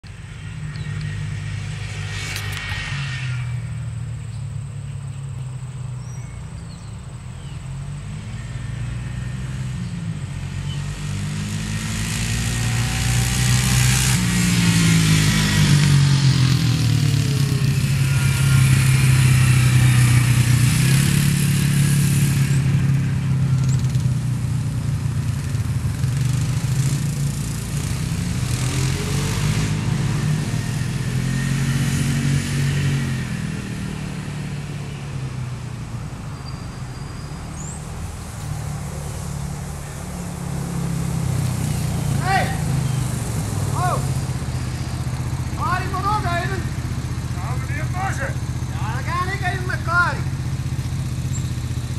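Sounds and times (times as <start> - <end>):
quad engine revving: 0.0 - 4.6, 6.6 - 51.9.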